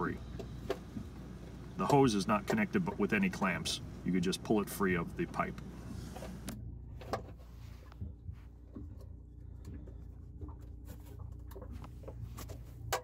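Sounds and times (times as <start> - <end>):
hand handling pump and hose: 0.0 - 13.0
low hum: 0.0 - 13.0.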